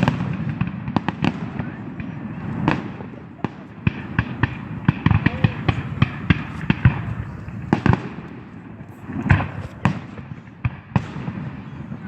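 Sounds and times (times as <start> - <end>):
fireworks bangs and crackles: 0.0 - 12.0
steady haze of noise: 0.0 - 12.0.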